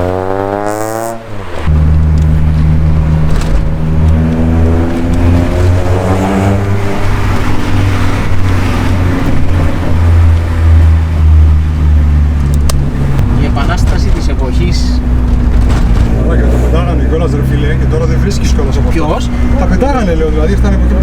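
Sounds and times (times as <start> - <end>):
car engine revving and droning: 0.0 - 21.0.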